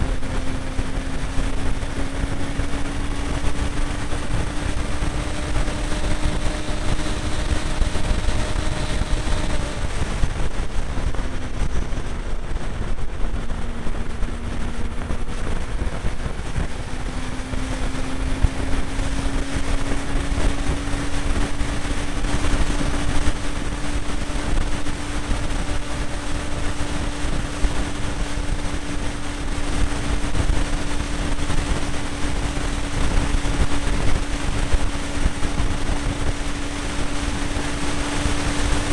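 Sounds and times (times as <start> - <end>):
motorcycle engine cruising: 0.0 - 38.9
wind rushing: 0.0 - 38.9.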